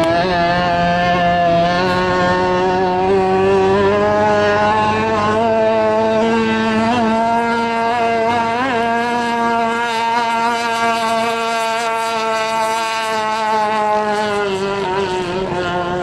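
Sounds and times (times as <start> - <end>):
boat two-stroke engine at high revs: 0.0 - 16.0.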